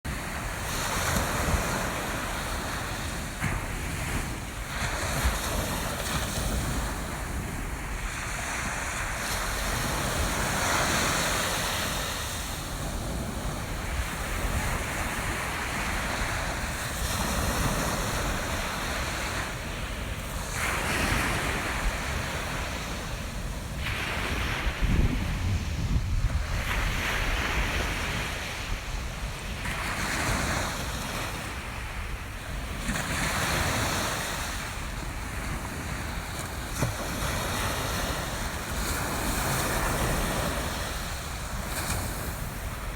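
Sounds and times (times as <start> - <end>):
ocean surf breaking on beach: 0.1 - 42.9
wind buffeting microphone: 0.1 - 42.9.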